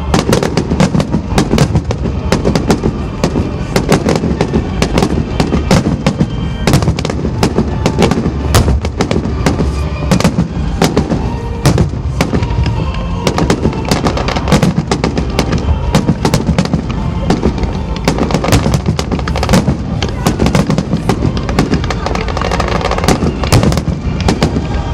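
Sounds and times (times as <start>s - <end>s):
firework bursts and crackles: 0.0s - 24.9s.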